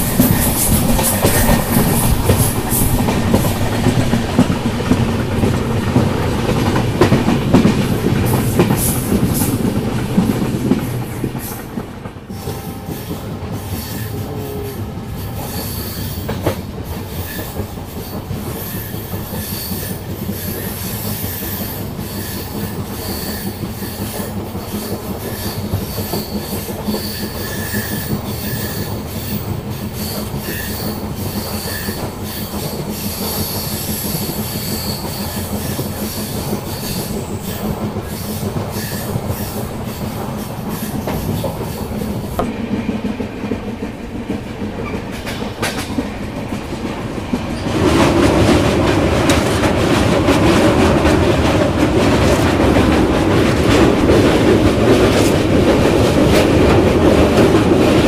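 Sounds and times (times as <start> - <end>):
train wheels rumbling and rattling: 0.0 - 58.0.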